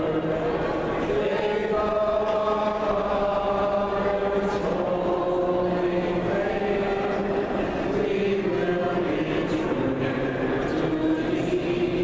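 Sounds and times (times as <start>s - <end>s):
group singing a prayer: 0.0s - 12.0s.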